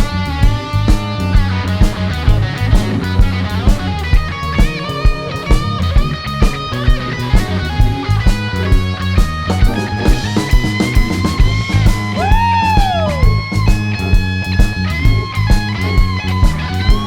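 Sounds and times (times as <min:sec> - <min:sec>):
bass guitar: 0:00.0 - 0:17.0
electric guitar lead lines: 0:00.0 - 0:17.0
steady drum beat: 0:00.0 - 0:17.0.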